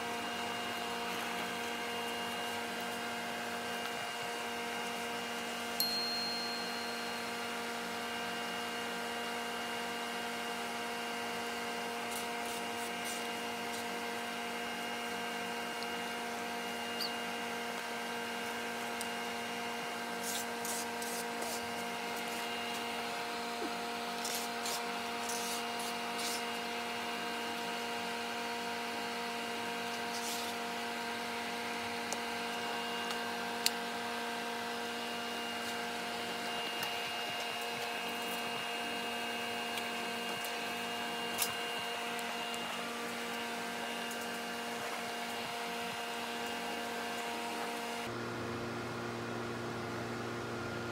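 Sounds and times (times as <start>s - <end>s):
machine hum: 0.0s - 50.9s.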